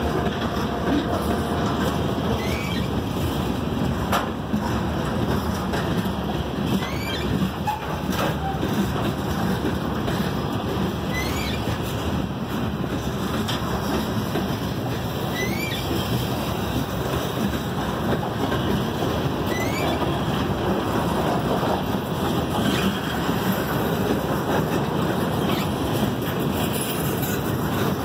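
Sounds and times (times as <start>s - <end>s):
steel wheels rumbling on rail: 0.0s - 28.0s.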